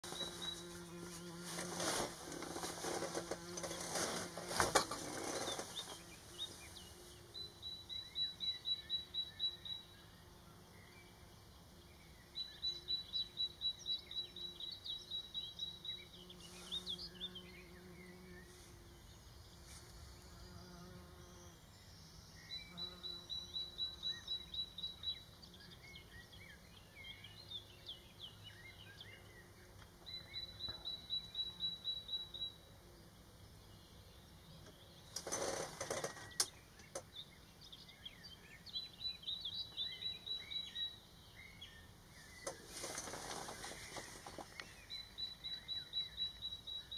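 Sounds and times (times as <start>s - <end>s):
small birds chirping faintly: 0.0s - 46.9s.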